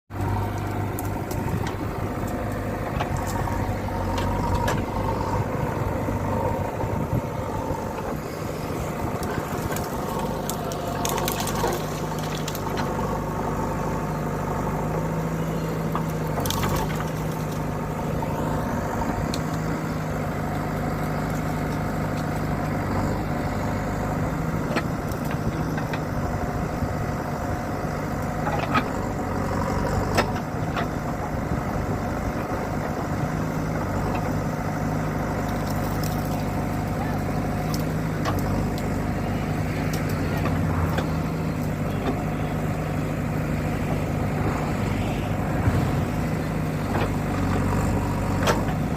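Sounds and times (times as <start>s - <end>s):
diesel engine running: 0.1s - 48.9s.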